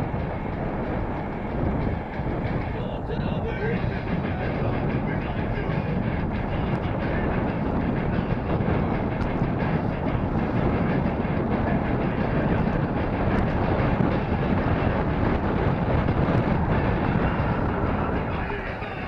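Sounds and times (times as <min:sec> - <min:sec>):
bicycle tyre and road noise: 0:00.0 - 0:19.0
wind rumble on microphone: 0:00.0 - 0:19.0.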